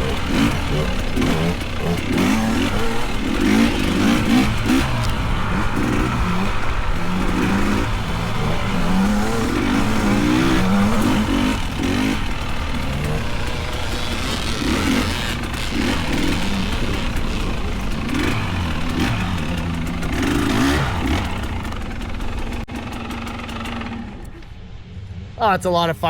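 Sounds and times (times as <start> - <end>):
dirt bike engine revving: 0.0 - 24.6.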